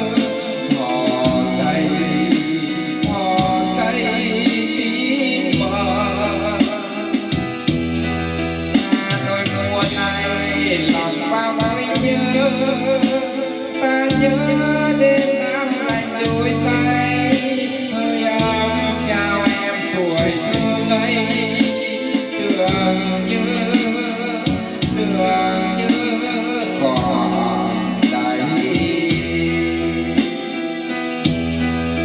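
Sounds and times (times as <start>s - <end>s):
song over loudspeakers: 0.0s - 32.0s.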